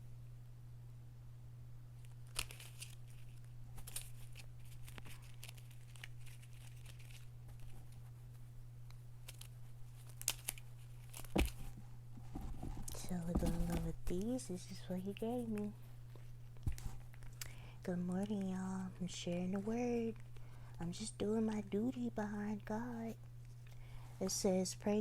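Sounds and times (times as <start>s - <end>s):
steady low hum: 0.0s - 25.0s
rustling and crinkling handling noise: 2.0s - 22.0s, 22.6s - 24.4s.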